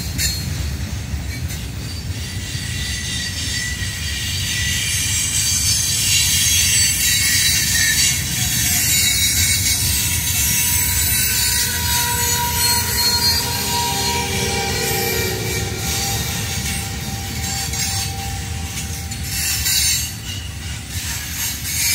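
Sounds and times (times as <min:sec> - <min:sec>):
train wheels rumbling on rails: 0:00.0 - 0:21.9
wheel squealing on rail: 0:00.0 - 0:21.9.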